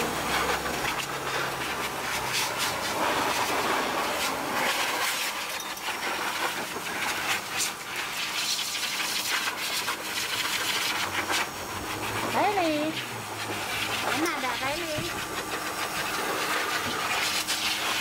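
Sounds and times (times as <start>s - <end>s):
blower rushing air: 0.0s - 18.0s.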